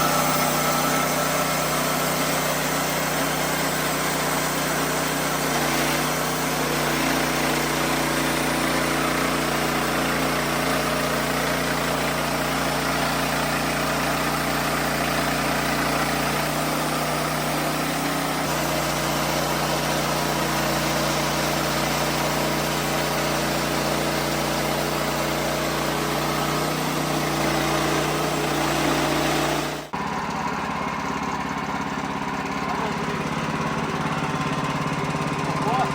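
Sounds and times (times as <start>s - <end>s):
bandsaw mill cutting log: 0.0s - 35.9s.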